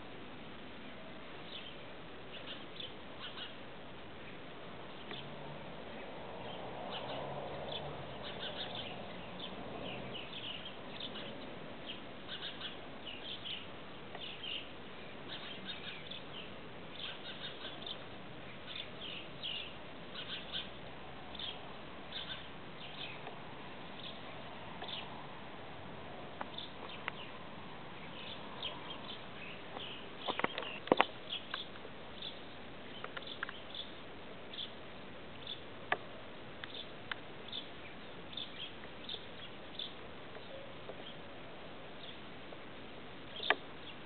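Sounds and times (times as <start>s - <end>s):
steady background hiss: 0.0s - 44.0s
small birds chirping: 0.7s - 25.4s, 26.3s - 44.0s.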